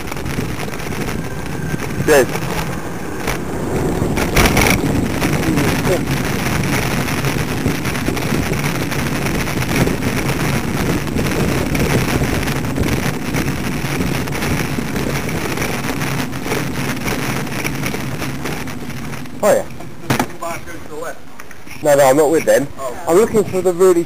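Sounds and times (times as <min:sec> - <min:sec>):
wind rush on microphone: 0:00.0 - 0:20.1.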